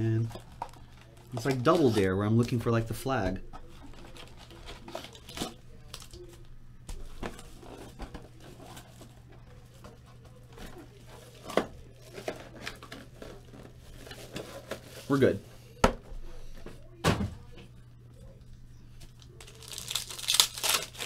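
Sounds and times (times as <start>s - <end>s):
card packs crinkling: 0.0s - 15.4s, 19.2s - 21.0s.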